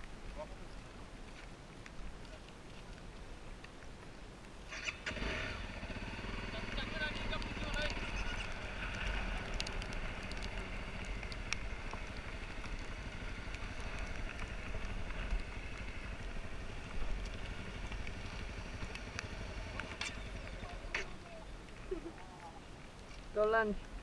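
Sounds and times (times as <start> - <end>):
dirt bike engine rumbling: 4.6 - 24.0.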